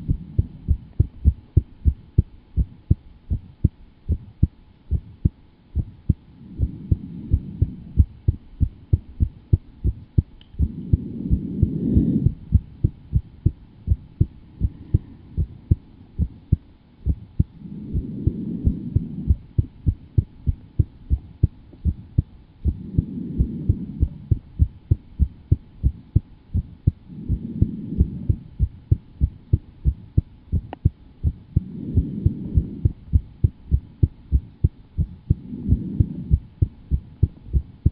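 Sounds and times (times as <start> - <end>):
fast heartbeat: 0.0 - 37.9.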